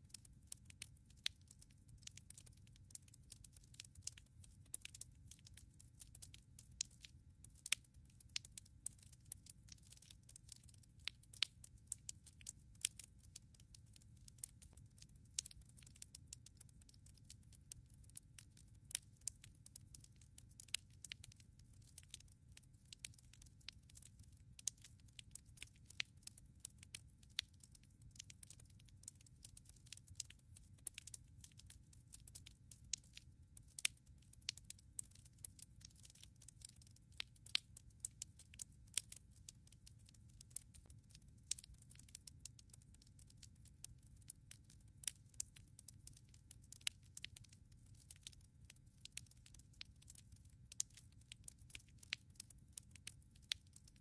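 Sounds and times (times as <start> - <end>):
fire crackling and popping: 0.1 - 54.0.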